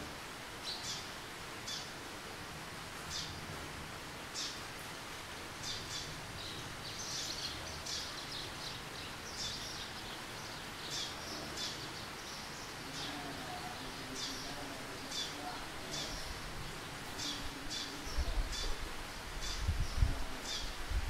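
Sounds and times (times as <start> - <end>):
rain hissing: 0.0 - 21.0.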